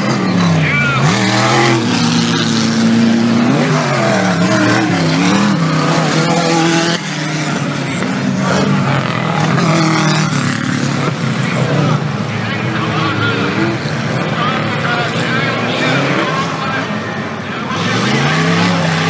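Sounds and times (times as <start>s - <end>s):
off-road engines revving: 0.0s - 19.0s.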